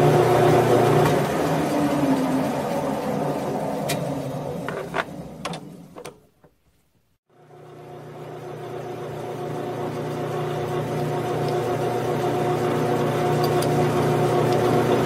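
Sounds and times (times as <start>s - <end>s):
metal lathe motor hum: 0.0s - 6.1s, 7.3s - 15.0s.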